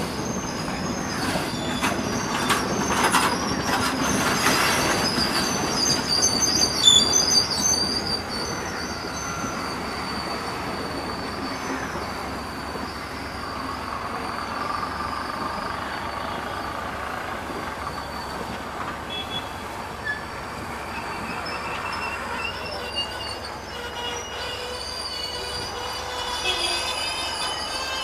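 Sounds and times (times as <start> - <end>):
train rumble on rails: 0.0 - 28.0
train wheels squealing: 0.0 - 28.0.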